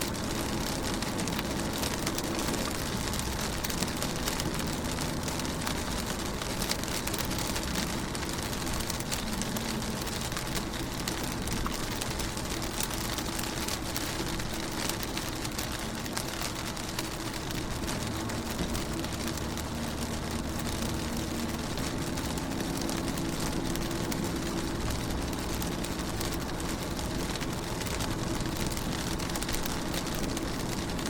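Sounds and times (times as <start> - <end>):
rain pattering on a car: 0.0 - 31.0.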